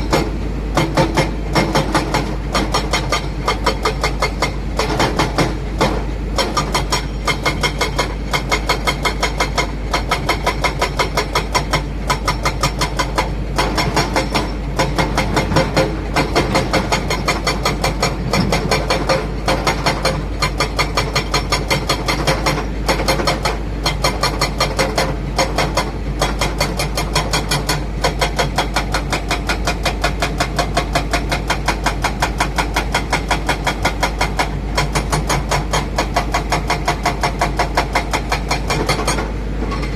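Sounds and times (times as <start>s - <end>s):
heavy diesel engines throbbing: 0.0s - 39.9s.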